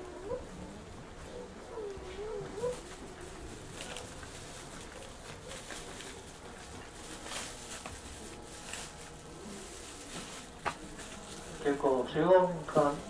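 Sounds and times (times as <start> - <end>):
low steady hum: 0.0 - 13.0
footsteps: 0.9 - 13.0.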